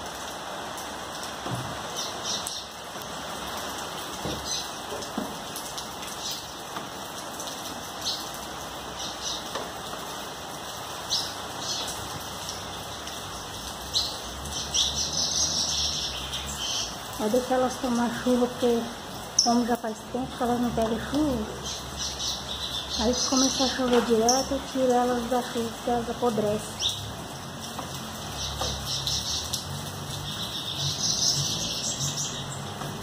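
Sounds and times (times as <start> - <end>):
steady rain falling: 0.0 - 33.0
rain drop taps: 1.2 - 10.2, 11.1 - 32.0, 32.6 - 33.0.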